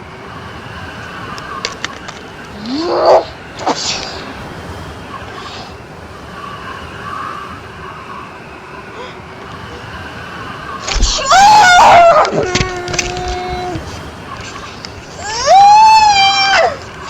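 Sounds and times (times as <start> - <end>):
steady hiss: 0.0 - 17.0
sliding screaming cry: 1.1 - 17.0.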